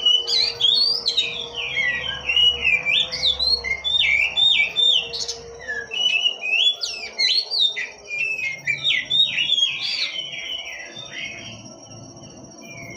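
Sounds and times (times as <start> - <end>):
bird singing whistled notes: 0.0 - 12.9.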